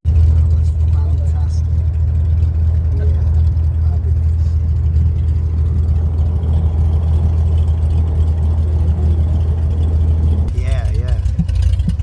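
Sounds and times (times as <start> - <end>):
seaplane engine and propeller: 0.0 - 12.0.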